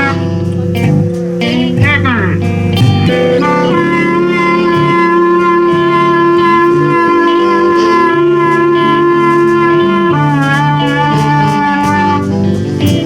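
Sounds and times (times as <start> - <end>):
bass: 0.0 - 13.0
drums: 0.0 - 13.0
guitar: 0.0 - 13.0
reed instrument long steady note: 0.0 - 13.0.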